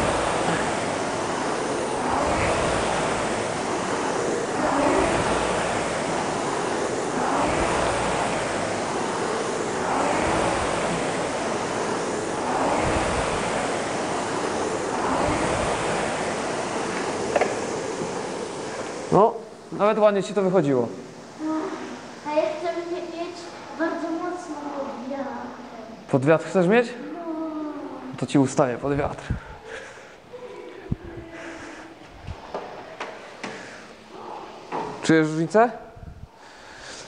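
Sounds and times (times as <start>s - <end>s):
rowing machine fan whoosh: 0.0s - 37.0s.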